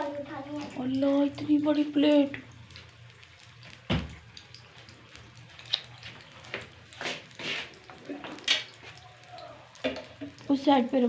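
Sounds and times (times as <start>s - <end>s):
potatoes sizzling in a pan: 0.0s - 11.0s.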